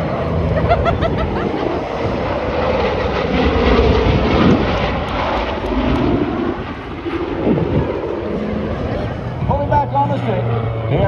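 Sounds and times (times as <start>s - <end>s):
propeller plane flying overhead: 0.0s - 11.0s.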